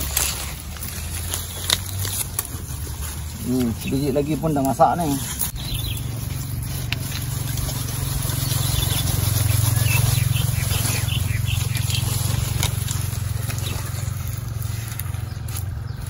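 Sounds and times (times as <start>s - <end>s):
plants rustling and crackling: 0.0s - 16.0s.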